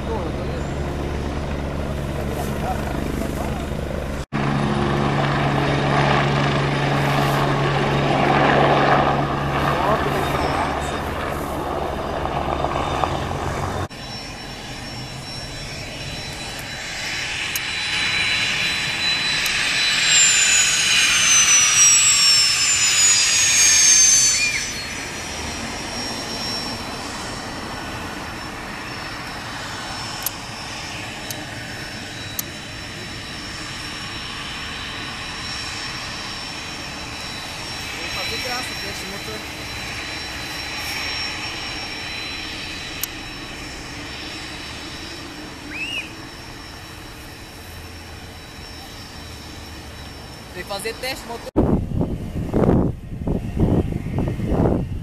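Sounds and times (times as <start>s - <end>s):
helicopter rotor and turbine rumble: 0.0s - 55.0s
jet turbofan whine: 0.0s - 55.0s.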